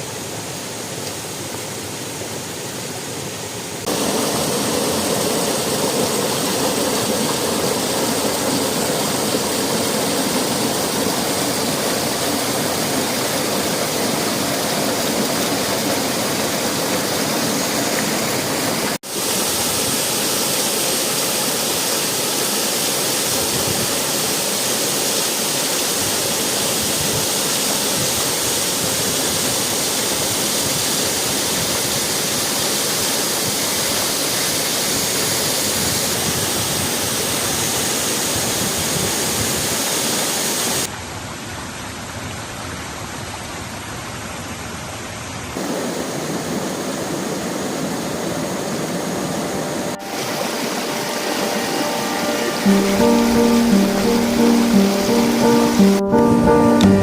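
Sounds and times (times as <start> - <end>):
waterfall rushing: 0.0 - 44.2, 45.5 - 57.0.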